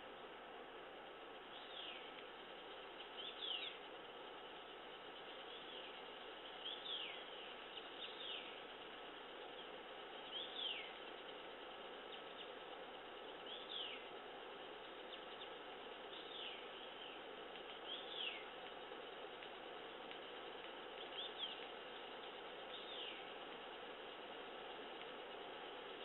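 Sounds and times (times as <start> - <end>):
forest insects: 0.0 - 26.0.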